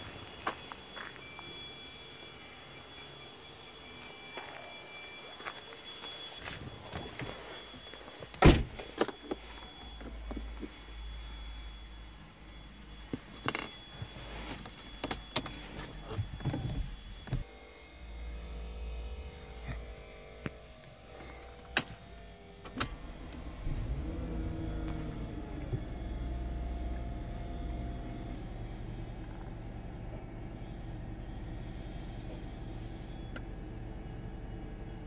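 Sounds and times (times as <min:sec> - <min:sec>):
car engine humming: 0:06.0 - 0:35.0.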